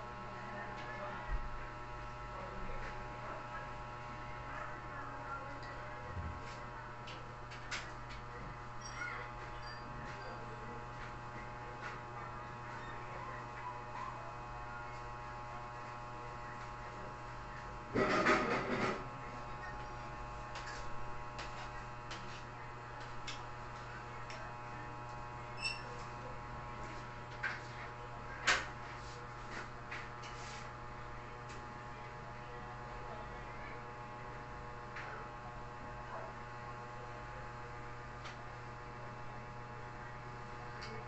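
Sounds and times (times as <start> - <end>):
electrical hum: 0.0 - 41.0.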